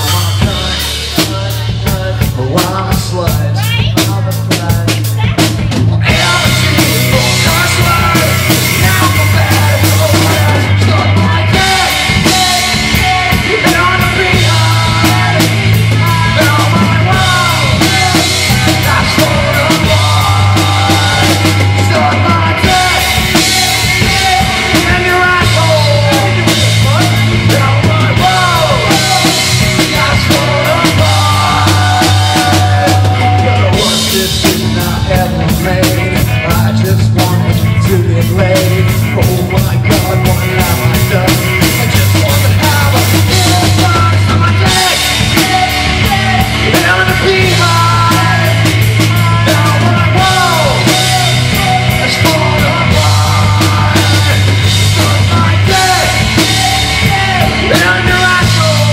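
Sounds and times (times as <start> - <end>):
bass guitar: 0.0 - 58.9
drum kit: 0.0 - 58.9
electric guitar: 4.8 - 58.9.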